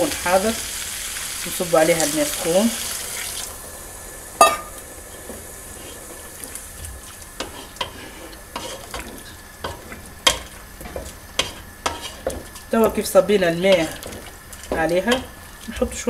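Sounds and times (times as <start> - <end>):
faint sizzling: 0.0 - 16.0.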